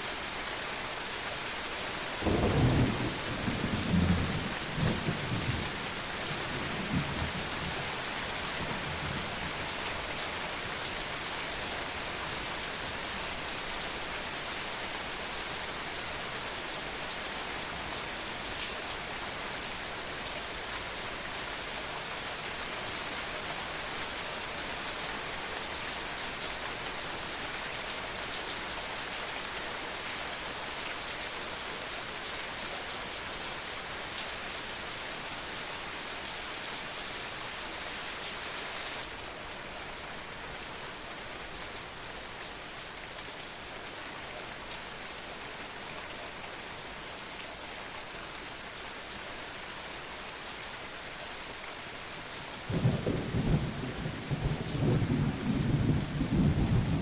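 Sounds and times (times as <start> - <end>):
rain on roofs and street: 0.0 - 57.0.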